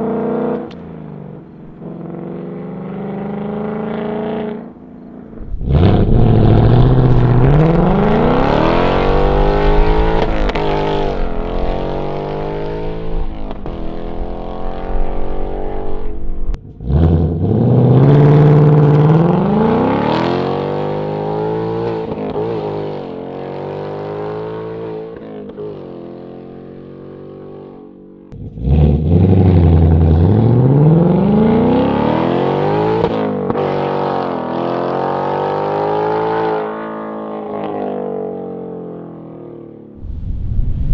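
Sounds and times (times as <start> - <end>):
car engine accelerating hard: 0.0 - 38.7.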